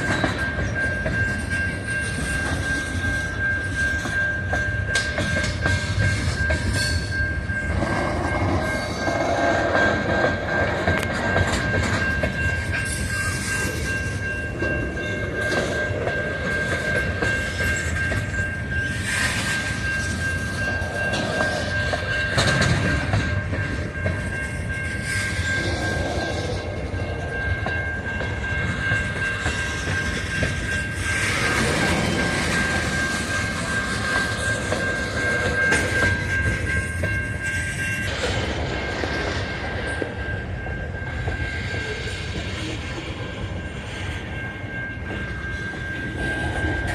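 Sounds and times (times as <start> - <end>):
steady high-pitched tone: 0.0 - 46.9
train cars clattering over rails: 0.0 - 46.9.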